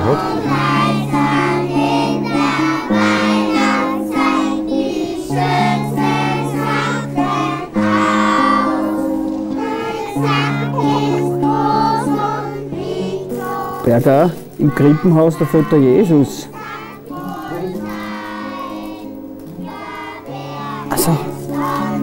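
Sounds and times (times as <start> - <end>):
children singing together: 0.0 - 22.0
long held chords: 0.0 - 22.0.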